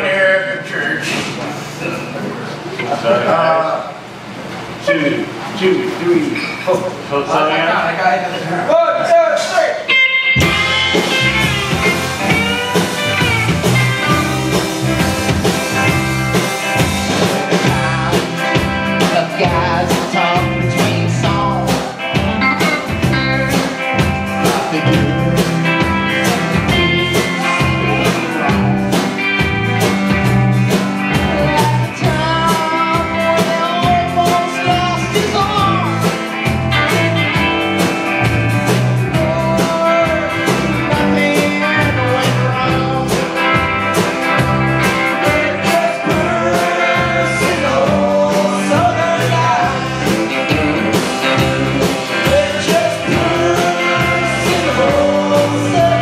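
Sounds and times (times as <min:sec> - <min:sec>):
electric guitars: 0:09.8 - 0:56.0
drum kit: 0:09.9 - 0:56.0.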